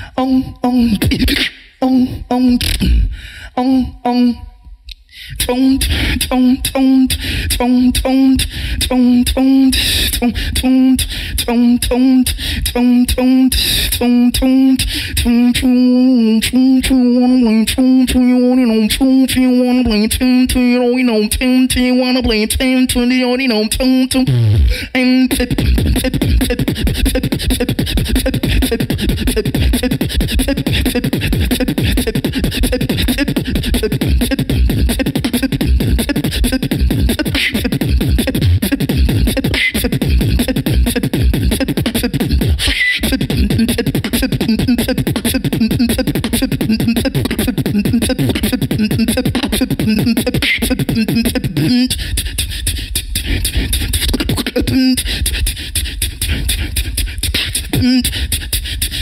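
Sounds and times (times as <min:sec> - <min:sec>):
person beatboxing into microphone: 0:00.0 - 0:59.0.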